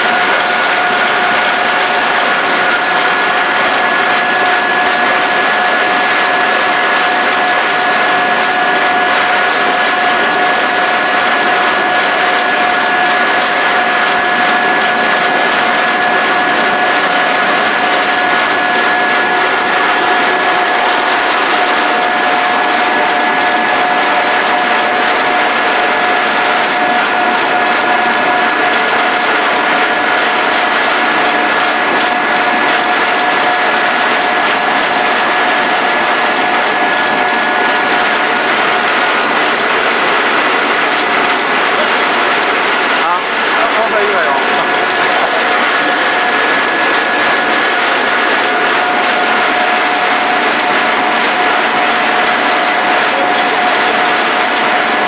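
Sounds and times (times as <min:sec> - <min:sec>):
high mechanical whine: 0:00.0 - 0:55.0
pellet mill mechanical din: 0:00.0 - 0:55.0.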